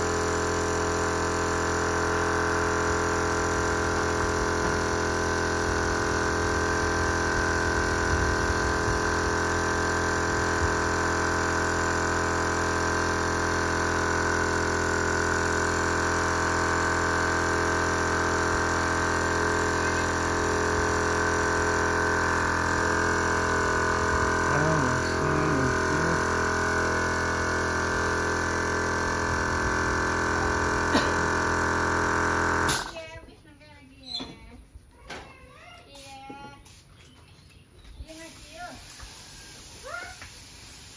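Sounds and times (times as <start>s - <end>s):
air compressor humming: 0.0s - 33.1s, 38.1s - 40.9s.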